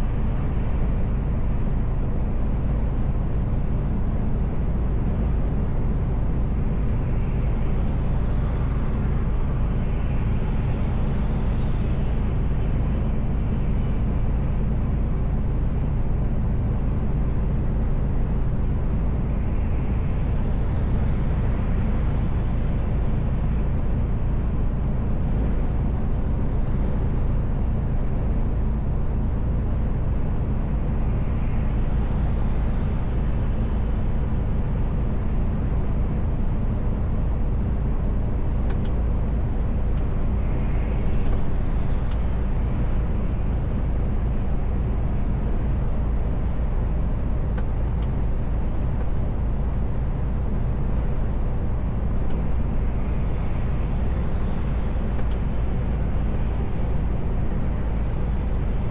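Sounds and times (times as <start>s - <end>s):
truck engine and road drone: 0.0s - 58.9s.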